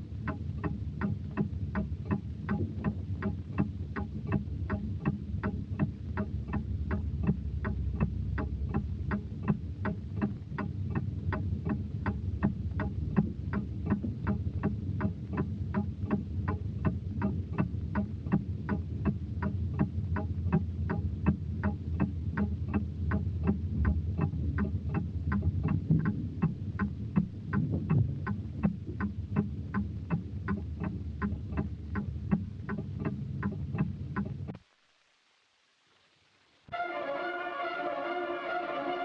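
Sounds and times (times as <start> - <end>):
low droning hum: 0.0 - 34.6
steady ticking: 0.0 - 34.6.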